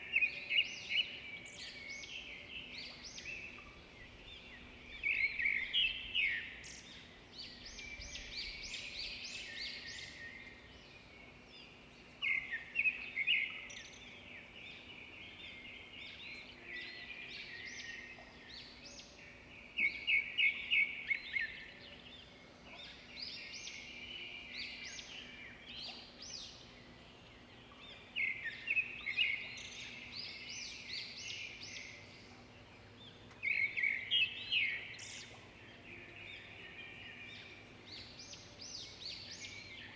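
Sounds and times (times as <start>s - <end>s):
faint background noise: 0.0s - 39.9s.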